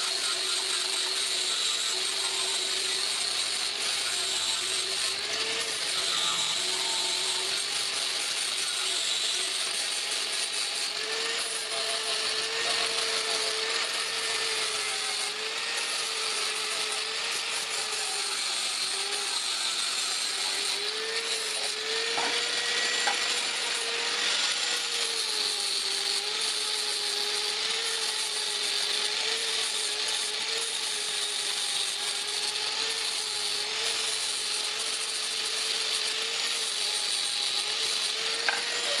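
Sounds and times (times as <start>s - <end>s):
power tool whining: 0.0s - 39.0s.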